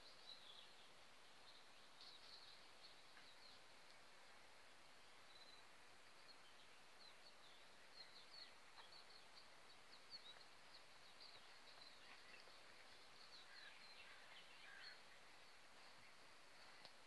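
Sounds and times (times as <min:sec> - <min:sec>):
faint birdsong chirps: 0:00.0 - 0:17.0
steady hiss: 0:00.0 - 0:17.0.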